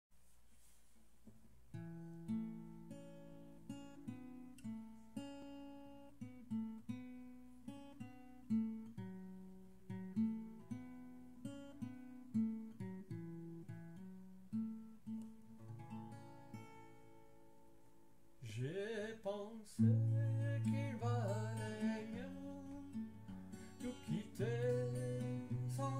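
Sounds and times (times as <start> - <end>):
acoustic guitar playing: 1.5 - 25.9.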